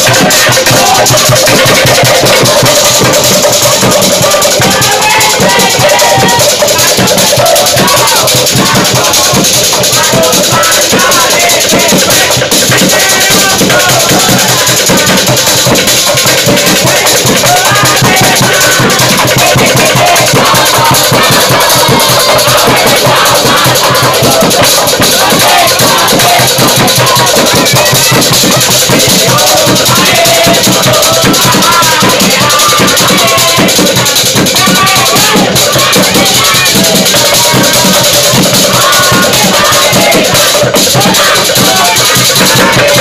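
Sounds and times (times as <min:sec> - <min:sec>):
drums beating fast rhythm: 0:00.0 - 0:43.0
group chanting and shouting: 0:00.0 - 0:43.0.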